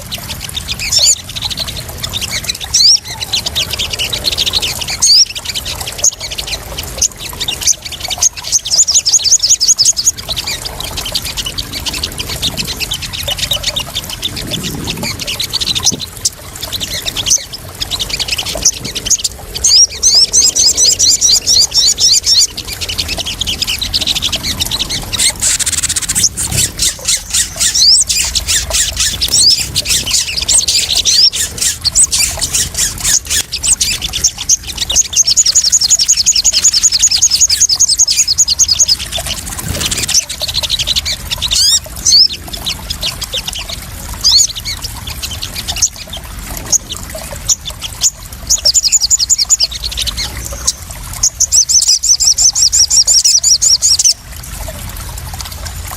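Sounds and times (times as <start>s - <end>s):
bird chirping trills: 0.0s - 54.2s
water splashing and trickling: 0.0s - 55.9s.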